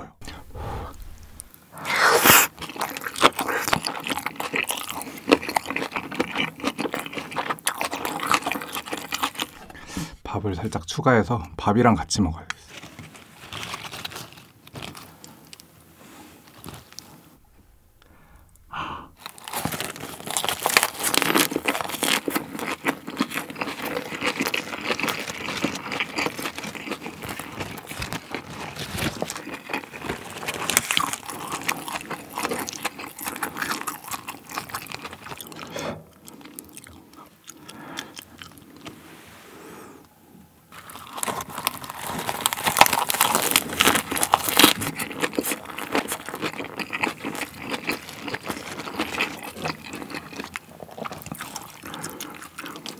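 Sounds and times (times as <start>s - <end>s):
crunchy chewing of lettuce: 0.9s - 10.2s, 12.7s - 17.4s, 19.1s - 39.1s, 40.7s - 52.9s.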